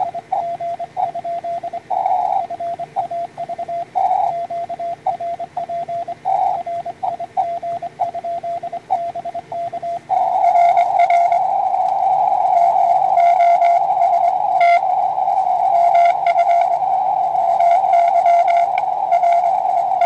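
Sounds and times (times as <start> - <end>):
hissy radio noise: 0.0 - 20.0
morse code tone: 0.0 - 20.0.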